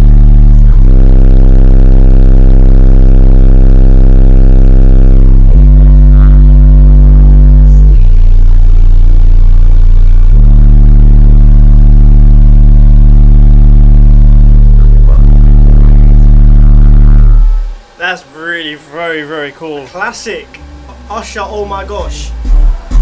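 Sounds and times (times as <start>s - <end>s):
loud deep bass from subwoofer: 0.0s - 18.0s, 20.2s - 23.0s.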